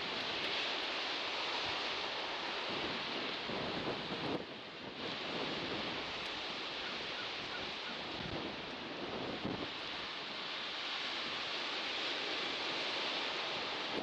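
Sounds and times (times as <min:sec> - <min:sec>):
ocean surf washing: 0:00.0 - 0:14.0.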